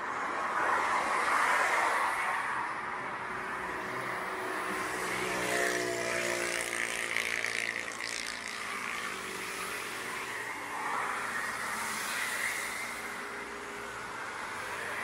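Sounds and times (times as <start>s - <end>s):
tyre noise of traffic: 0.0s - 15.0s.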